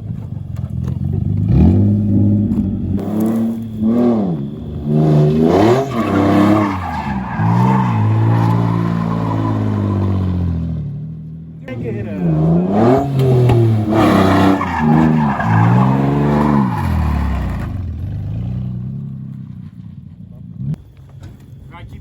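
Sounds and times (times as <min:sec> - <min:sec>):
car engine revving: 0:00.0 - 0:19.4
tyres skidding: 0:00.0 - 0:20.2.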